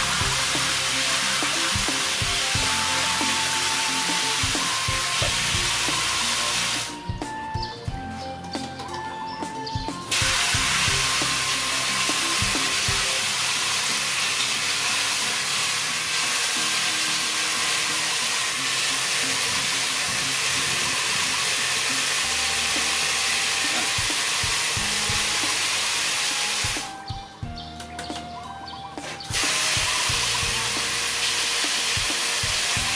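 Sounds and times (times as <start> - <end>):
water spraying into metal basin: 0.0 - 7.2, 9.5 - 27.1, 29.2 - 32.9.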